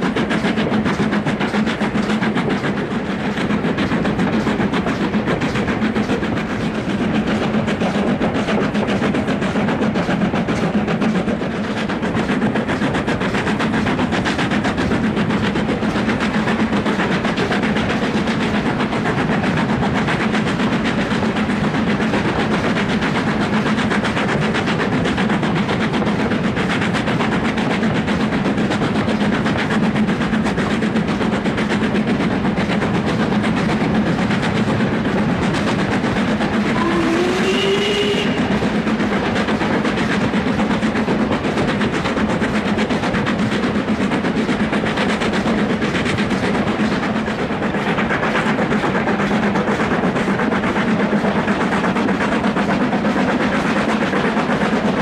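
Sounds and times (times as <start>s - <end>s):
coach wheels on rails: 0.0s - 55.0s
steam locomotive chuffing: 0.0s - 55.0s.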